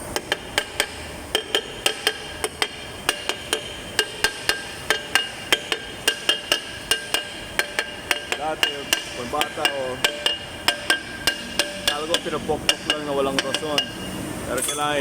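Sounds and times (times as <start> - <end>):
hammer striking metal drum: 0.0 - 14.9.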